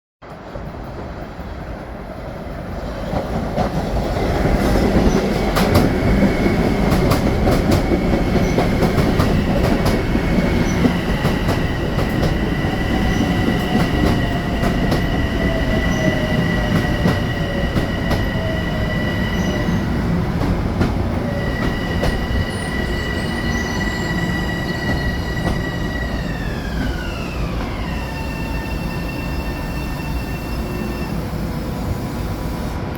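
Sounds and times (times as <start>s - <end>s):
electric train rumbling: 0.2s - 32.9s.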